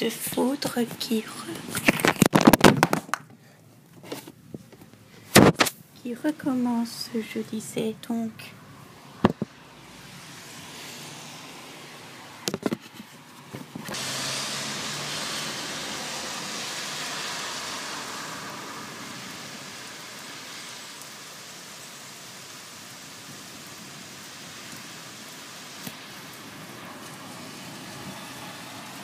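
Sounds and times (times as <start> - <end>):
heavy rain hissing: 0.0 - 2.3, 5.2 - 12.5, 13.1 - 29.0.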